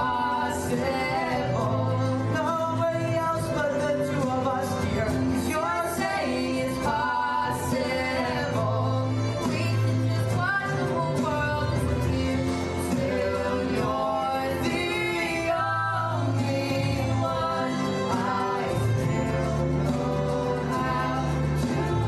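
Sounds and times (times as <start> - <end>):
boy and girl singing a duet: 0.0 - 22.0
instrumental accompaniment: 0.0 - 22.0.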